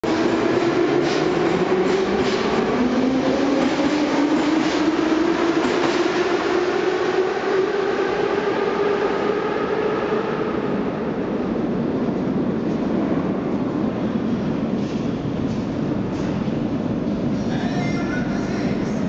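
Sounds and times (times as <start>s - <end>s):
metro train running with whine: 0.0s - 19.0s.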